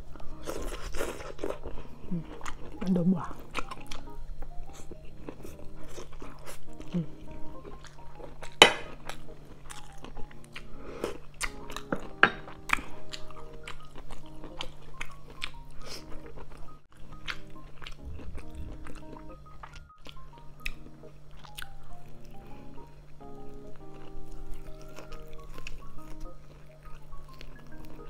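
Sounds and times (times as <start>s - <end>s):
soft background music: 0.0s - 28.0s
chewing and wet mouth sounds: 0.1s - 28.0s.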